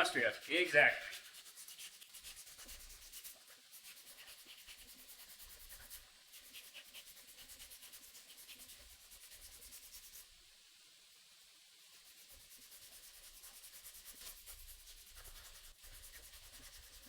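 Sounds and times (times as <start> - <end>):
faint hand sanding strokes: 0.0 - 10.5, 11.4 - 17.0.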